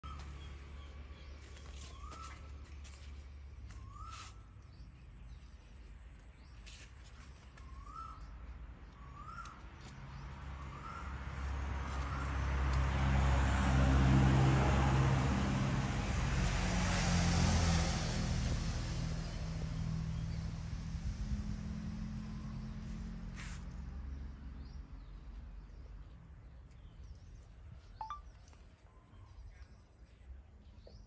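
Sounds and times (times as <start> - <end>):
vehicle engine rumble and hiss: 0.1 - 26.7.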